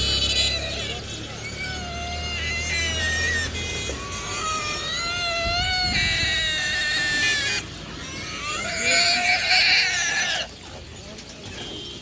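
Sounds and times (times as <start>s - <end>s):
pig squealing: 0.0s - 10.6s.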